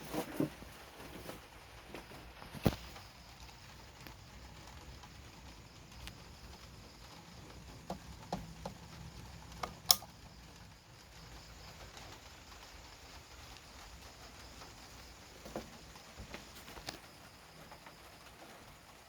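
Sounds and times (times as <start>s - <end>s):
ceiling fan humming: 0.0s - 17.5s.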